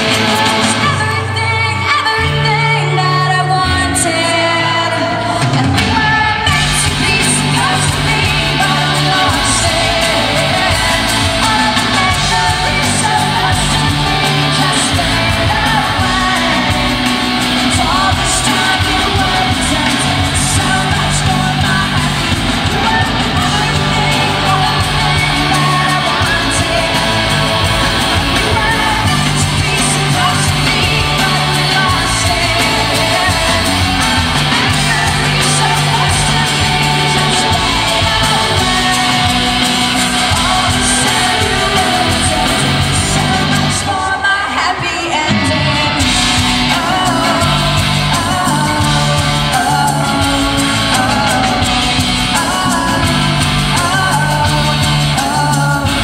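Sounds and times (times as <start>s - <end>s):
live rock band playing: 0.0s - 56.0s
woman singing: 0.0s - 56.0s.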